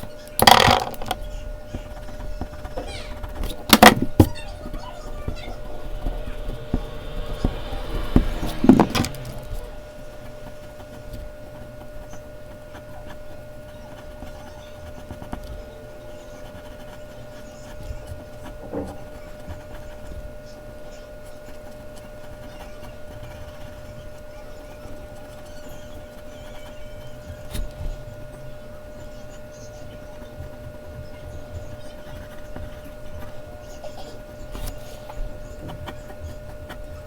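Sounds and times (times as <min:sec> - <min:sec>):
pencil scratching on paper: 0:00.0 - 0:28.2, 0:28.8 - 0:37.0.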